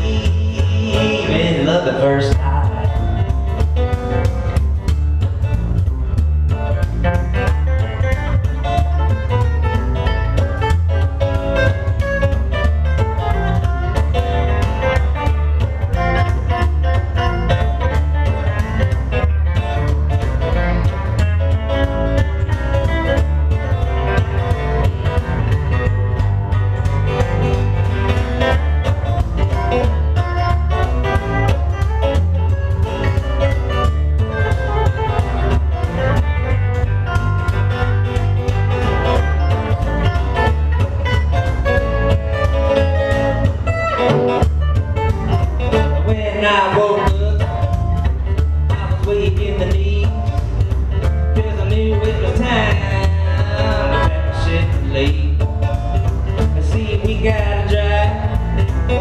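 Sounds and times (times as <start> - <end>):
acoustic guitar: 0.0 - 59.0
plucked upright bass: 0.0 - 59.0.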